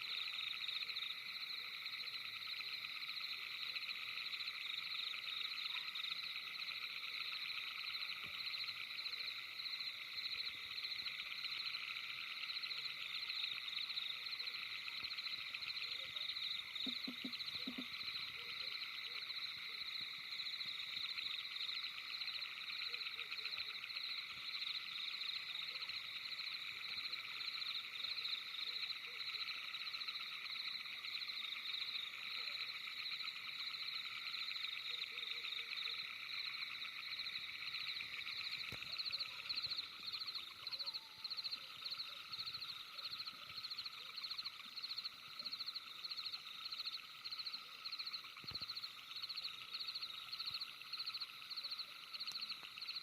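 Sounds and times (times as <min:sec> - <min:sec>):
frogs calling: 0:00.0 - 0:53.0
insects trilling: 0:00.0 - 0:53.0.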